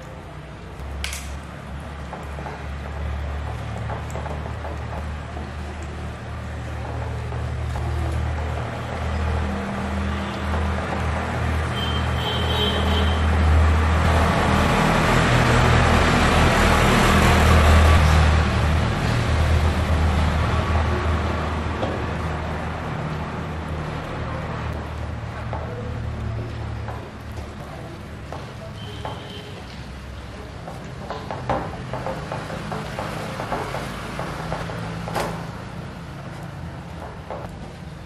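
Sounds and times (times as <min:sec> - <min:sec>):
motor vehicle passing: 0:00.8 - 0:12.3, 0:13.2 - 0:38.0.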